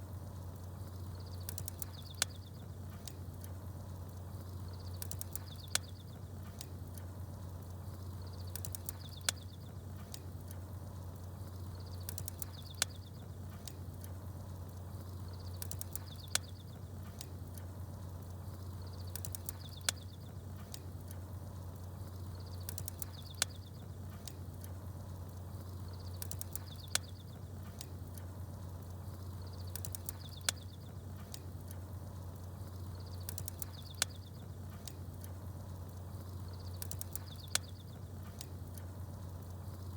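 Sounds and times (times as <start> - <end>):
campfire crackling click: 0.0 - 39.9
steady low hum: 0.0 - 39.9
small birds chirping: 0.2 - 39.9.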